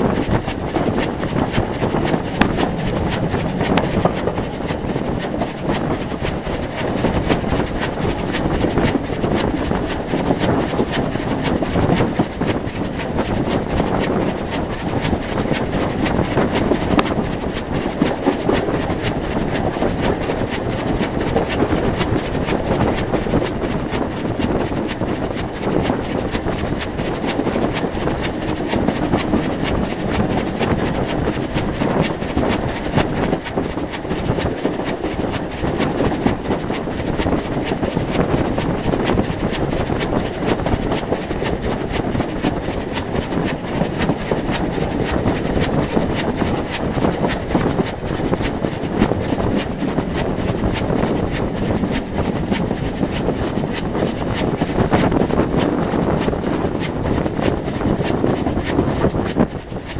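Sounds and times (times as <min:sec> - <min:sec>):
wind on microphone: 0:00.0 - 0:59.9.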